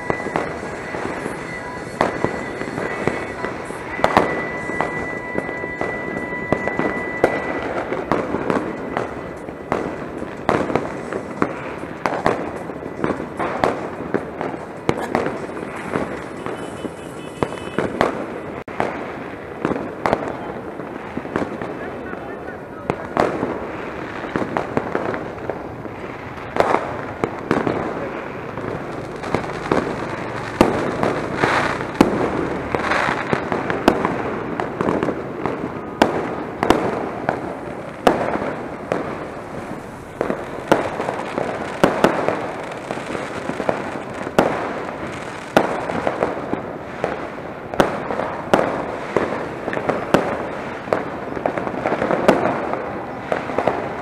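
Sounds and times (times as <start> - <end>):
firecrackers crackling: 0.0 - 54.0
fireworks bangs: 0.0 - 54.0.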